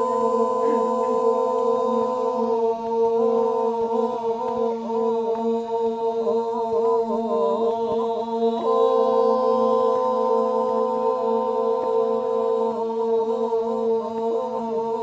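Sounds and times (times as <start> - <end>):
male chorus chanting a drone: 0.0 - 15.0.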